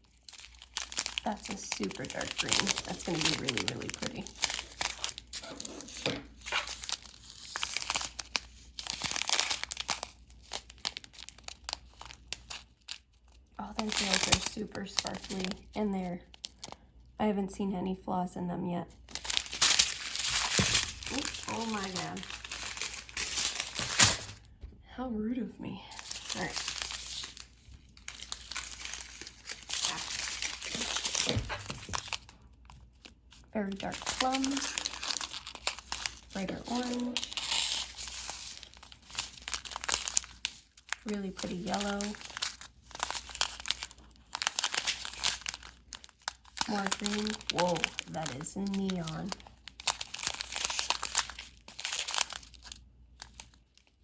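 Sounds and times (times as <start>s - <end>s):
plastic bags crinkling: 0.0s - 16.8s, 19.1s - 24.6s, 25.9s - 54.0s.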